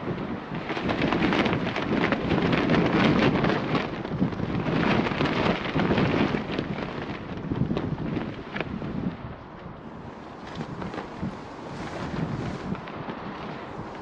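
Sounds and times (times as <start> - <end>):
rapid crackles: 0.0 - 14.0
wind buffeting microphone: 0.0 - 14.0.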